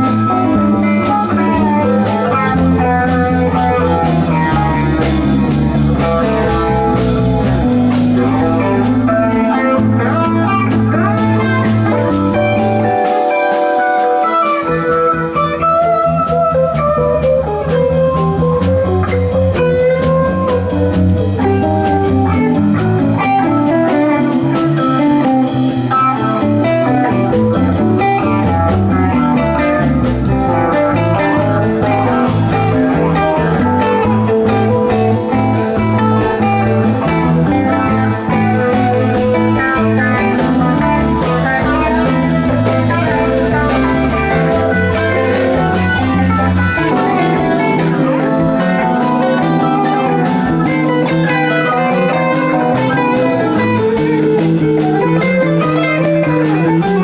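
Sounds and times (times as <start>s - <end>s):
electric bass: 0.0s - 57.0s
electric guitar: 0.0s - 57.0s.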